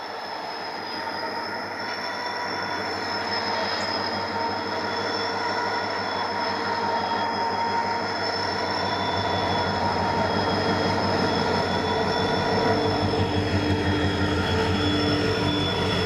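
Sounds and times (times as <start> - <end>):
train rumbling on rails: 0.0 - 16.0
wheels squealing on track: 0.2 - 16.0.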